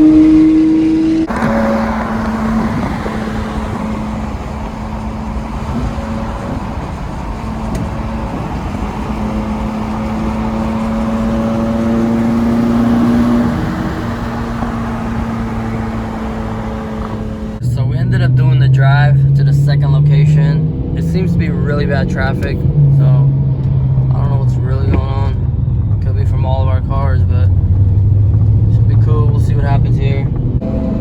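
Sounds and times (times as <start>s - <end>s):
car engine running: 0.0s - 31.0s
road noise: 0.0s - 31.0s.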